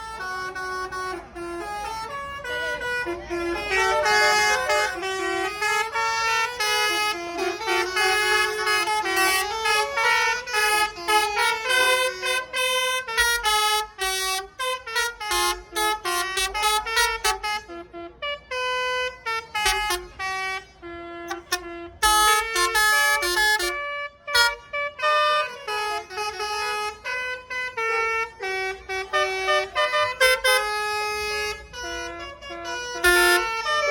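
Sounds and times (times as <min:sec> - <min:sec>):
musical bus horns playing tunes: 0:00.0 - 0:33.9.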